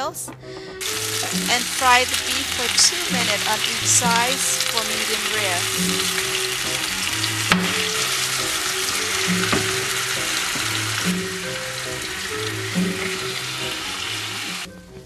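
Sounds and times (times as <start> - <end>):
soft background music: 0.0 - 15.0
steaks sizzling in a pan: 0.8 - 14.7.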